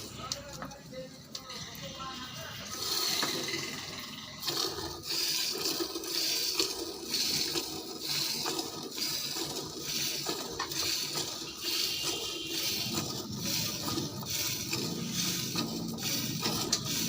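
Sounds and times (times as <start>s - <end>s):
liquid splashing and running: 2.7s - 17.0s.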